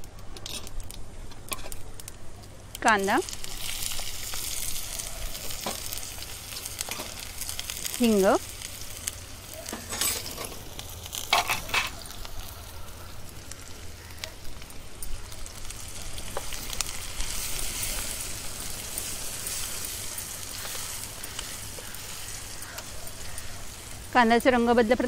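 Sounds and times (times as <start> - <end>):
onion sizzling in hot oil: 0.4 - 25.0.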